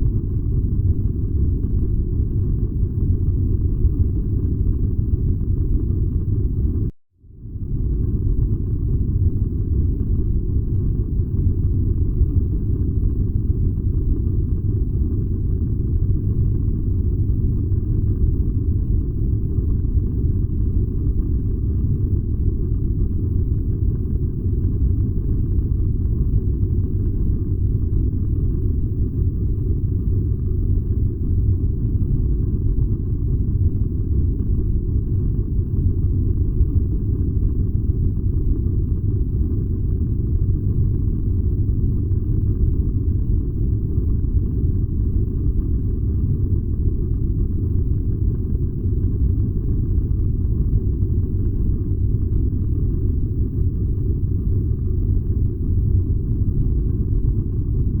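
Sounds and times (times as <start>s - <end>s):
furnace burning low rumble: 0.0s - 58.0s.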